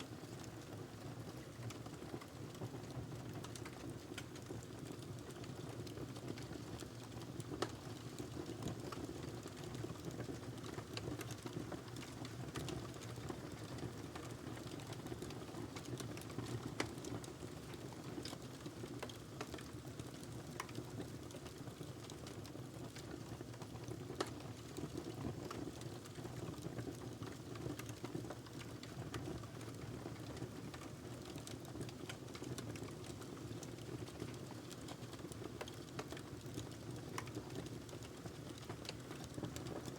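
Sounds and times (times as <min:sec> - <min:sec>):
logs crackling and popping: 0:01.4 - 0:39.9.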